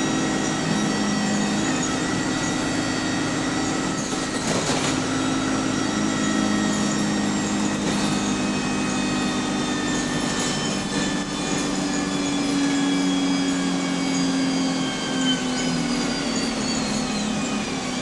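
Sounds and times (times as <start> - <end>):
bus engine drone: 0.0 - 18.0
gearbox whine: 0.0 - 18.0.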